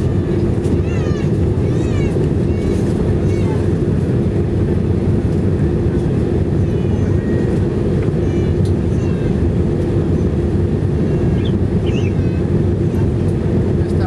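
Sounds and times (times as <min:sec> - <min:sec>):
airplane cabin engine drone: 0:00.0 - 0:14.0
faint passenger voices: 0:00.0 - 0:14.0.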